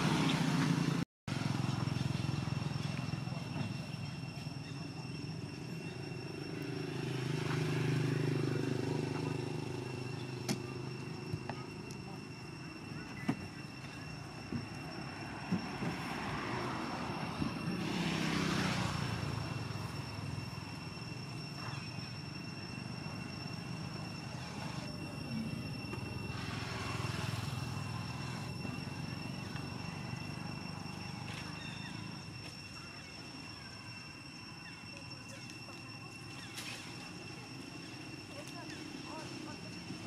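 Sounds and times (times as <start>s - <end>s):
distant passing traffic: 0.0s - 40.0s
steady high-pitched whine: 0.0s - 40.0s.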